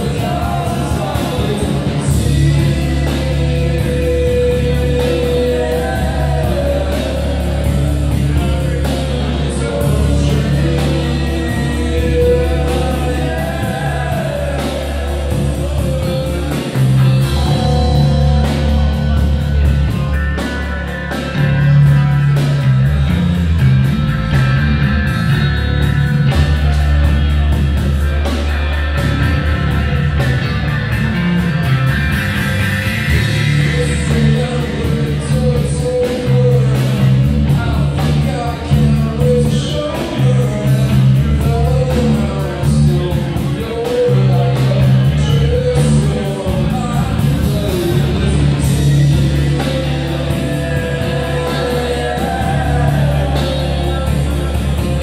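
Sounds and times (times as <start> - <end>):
drums: 0.0 - 55.0
electric guitar: 0.0 - 55.0
person singing: 0.0 - 55.0.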